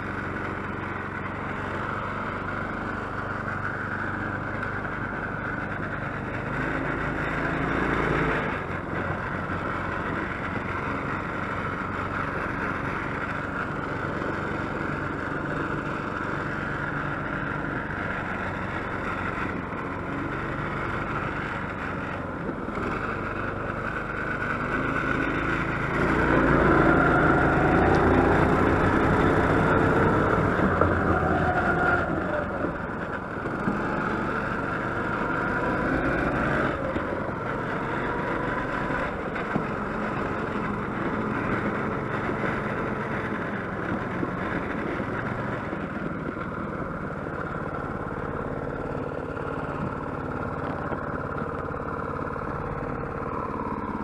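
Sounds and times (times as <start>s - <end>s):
small gas engine running: 0.0s - 54.0s.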